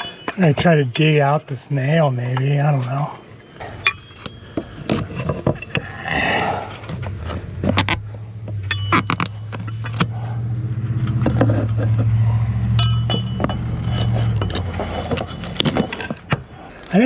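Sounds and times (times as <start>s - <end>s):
metallic clinks and knocks: 0.0s - 1.2s, 2.4s - 17.0s
low hum: 3.2s - 16.9s.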